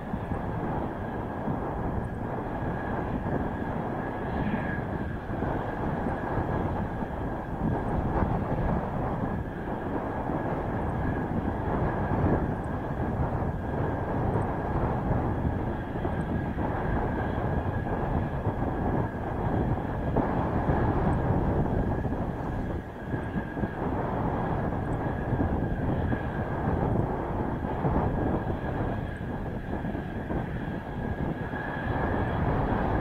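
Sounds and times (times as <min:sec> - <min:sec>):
jet engine idling: 0:00.0 - 0:33.0
thin steady whine: 0:00.0 - 0:33.0
wind on microphone: 0:00.0 - 0:33.0.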